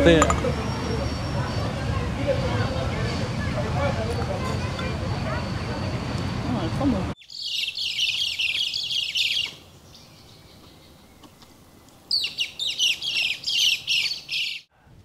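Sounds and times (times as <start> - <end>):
street noise: 0.0 - 14.5
flock of birds chattering: 0.0 - 14.7.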